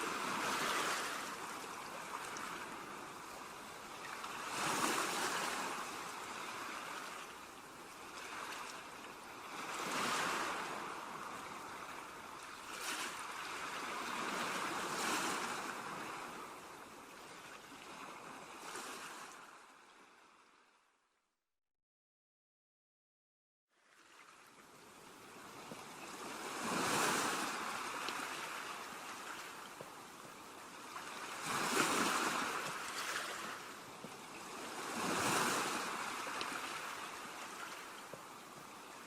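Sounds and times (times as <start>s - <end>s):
ocean waves washing onto beach: 0.0s - 19.5s, 24.0s - 39.0s.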